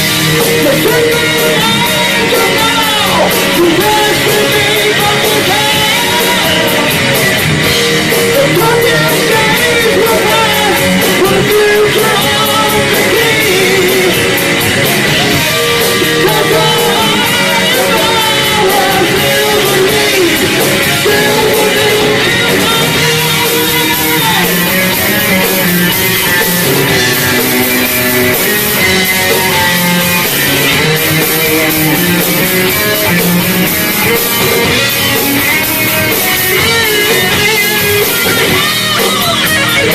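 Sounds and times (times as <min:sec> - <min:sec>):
heavy metal band playing: 0:00.0 - 0:39.9
person singing: 0:00.1 - 0:39.9.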